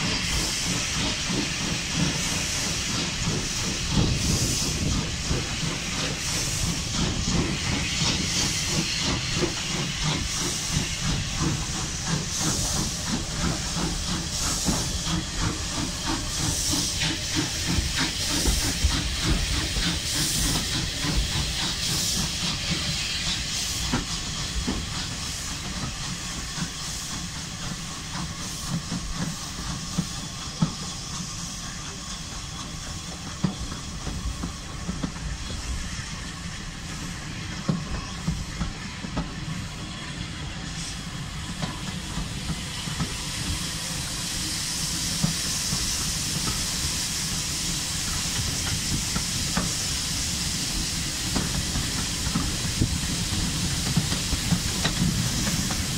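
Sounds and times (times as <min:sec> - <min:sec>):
steam hiss: 0:00.0 - 0:55.9
steam locomotive exhaust beats: 0:00.0 - 0:55.9.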